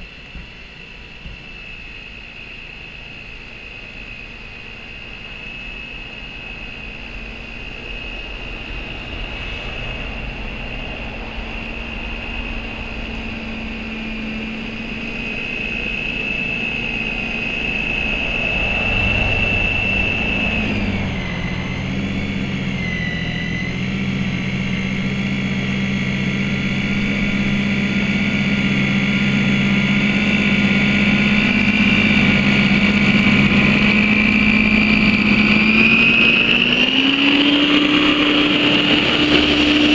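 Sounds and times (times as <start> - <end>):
electric snow thrower motor whine: 0.0 - 39.9.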